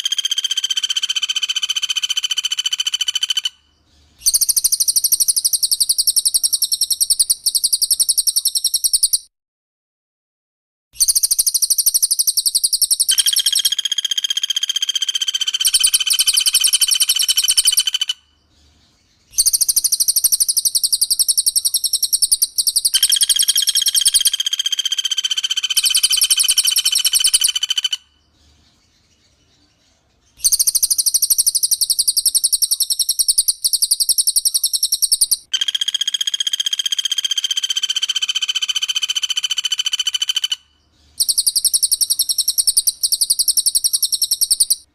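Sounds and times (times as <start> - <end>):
clear bird whistle: 0.0 - 9.3, 11.0 - 18.5, 19.2 - 28.3, 30.4 - 44.9
high-pitched rattling bird trill: 0.0 - 9.3, 11.0 - 18.2, 19.3 - 28.1, 30.4 - 44.9.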